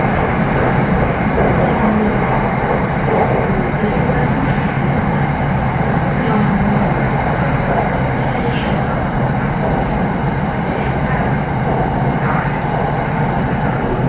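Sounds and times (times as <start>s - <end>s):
train running noise inside car: 0.0s - 14.0s.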